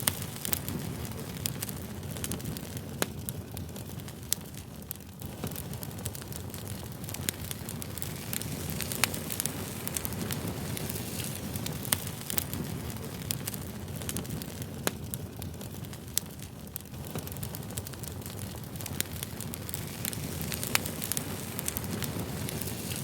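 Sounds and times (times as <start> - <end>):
fire crackling and popping: 0.0 - 23.0
rumble of flames: 0.0 - 23.0.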